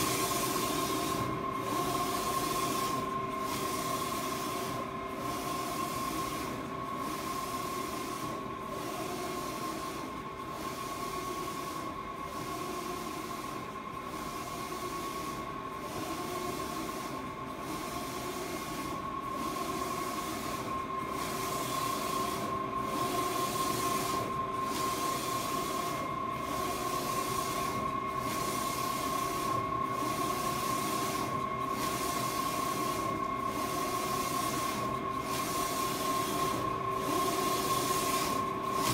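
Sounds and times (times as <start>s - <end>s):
printer whine and hiss: 0.0s - 38.9s.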